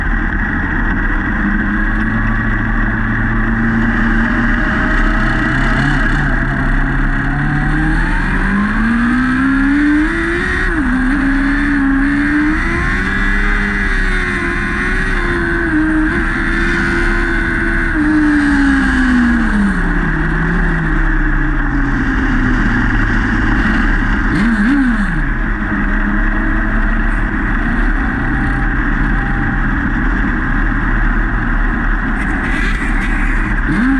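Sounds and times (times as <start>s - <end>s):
race car engine revving: 0.0s - 33.9s
wind and track noise: 0.0s - 33.9s.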